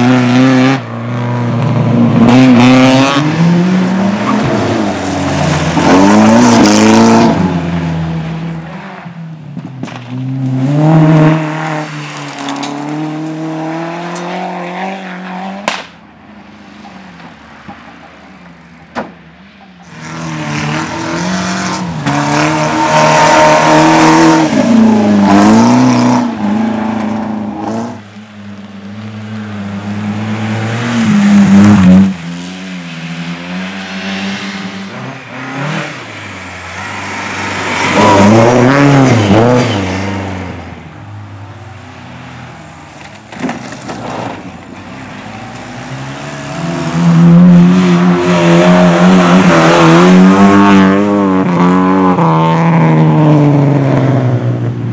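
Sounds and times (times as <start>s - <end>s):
rally cars revving past: 0.0s - 9.0s, 10.1s - 15.8s, 19.8s - 28.2s, 28.8s - 40.8s, 44.0s - 54.8s.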